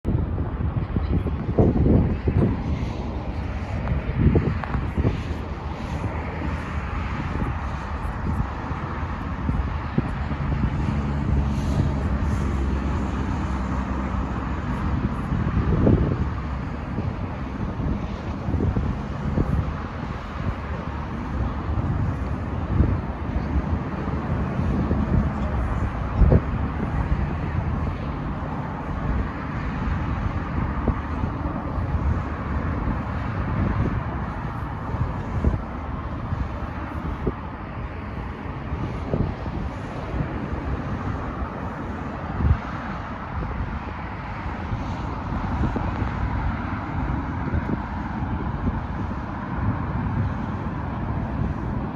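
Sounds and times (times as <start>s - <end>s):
wind buffeting microphone: 0.0s - 51.9s
jet engines rumbling: 0.1s - 51.9s.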